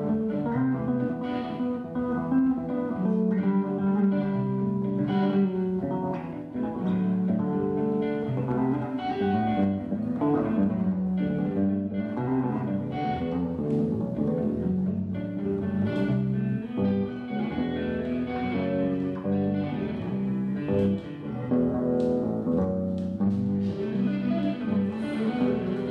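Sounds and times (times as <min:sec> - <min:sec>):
plucked guitar: 0:00.0 - 0:25.9
low bass notes: 0:02.1 - 0:25.9.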